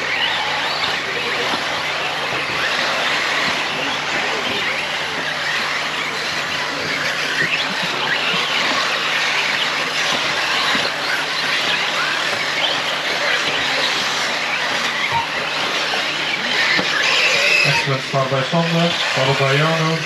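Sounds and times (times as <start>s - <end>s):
electric rc car motors whining: 0.0s - 20.0s.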